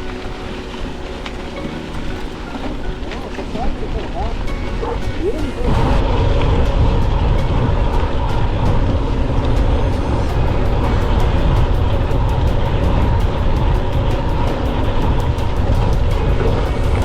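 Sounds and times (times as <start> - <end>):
bike tyre rumble on dirt: 0.0 - 17.0
fast regular ticking: 0.0 - 17.0
wind rushing over microphone: 0.0 - 17.0.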